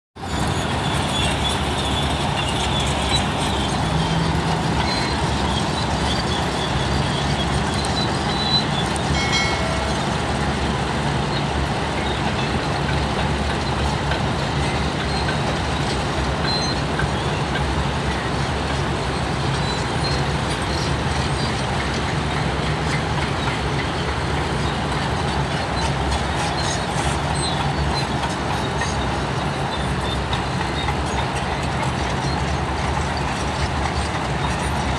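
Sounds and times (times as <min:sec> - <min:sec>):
bulldozer diesel engine rumbling: 0:00.2 - 0:34.9.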